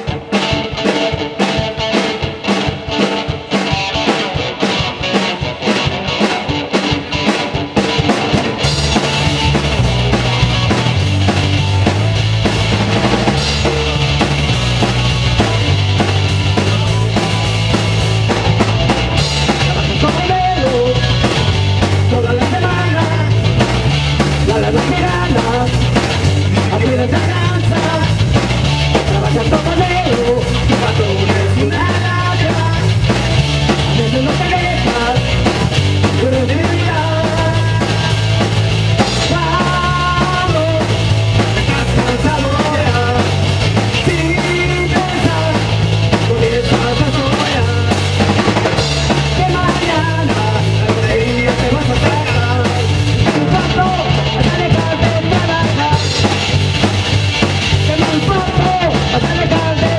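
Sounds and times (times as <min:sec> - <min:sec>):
electric bass line: 0:00.0 - 0:59.9
live rock band playing: 0:00.0 - 0:59.9.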